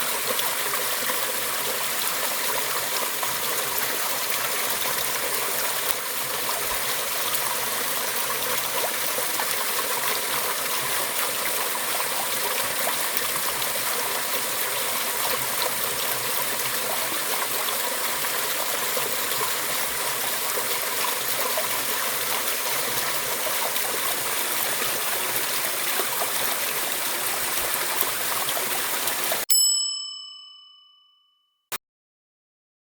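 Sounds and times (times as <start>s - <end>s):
stream flowing: 0.0s - 30.4s.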